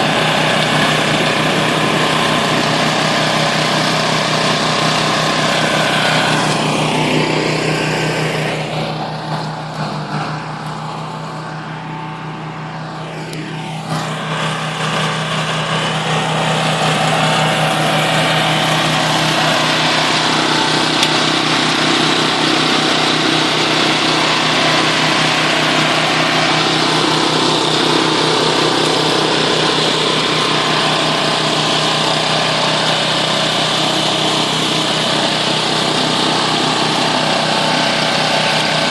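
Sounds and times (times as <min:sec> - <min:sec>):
flail mower engine running: 0:00.0 - 0:38.9.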